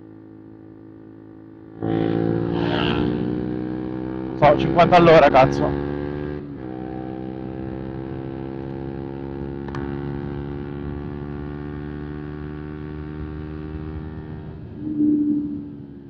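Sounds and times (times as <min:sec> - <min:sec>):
motorcycle engine at high revs: 0:00.0 - 0:15.9.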